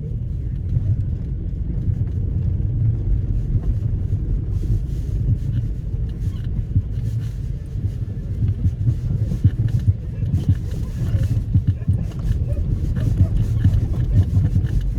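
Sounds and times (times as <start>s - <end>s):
car engine low rumble: 0.0s - 14.9s.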